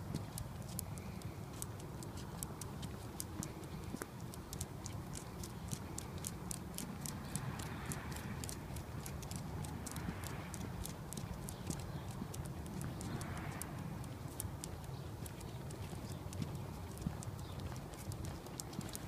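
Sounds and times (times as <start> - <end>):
dog toenails clicking on hard ground: 0.0 - 19.0.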